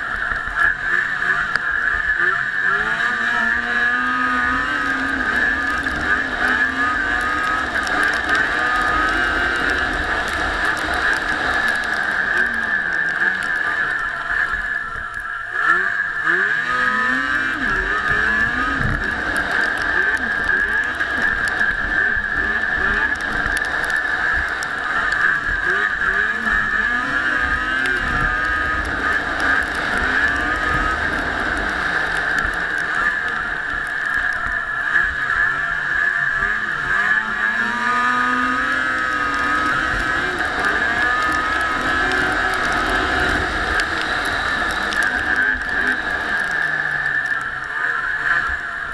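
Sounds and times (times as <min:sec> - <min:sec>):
steady high whine: 0:00.0 - 0:48.9
vehicle engine running: 0:00.0 - 0:48.9.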